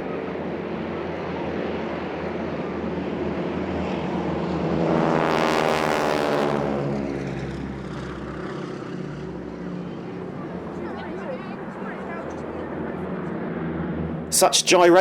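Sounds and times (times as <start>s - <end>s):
biplane engines buzzing: 0.0s - 15.0s.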